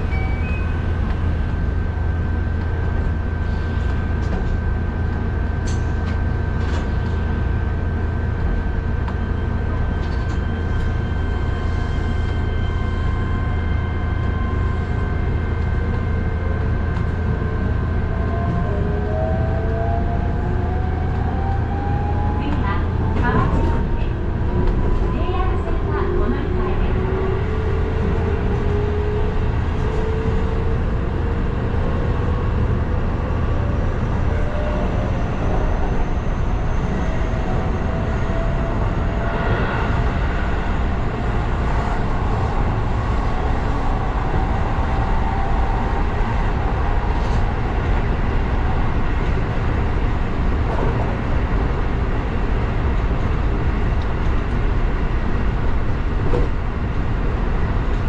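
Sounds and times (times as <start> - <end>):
electric train rumbling on track: 0.0 - 58.0.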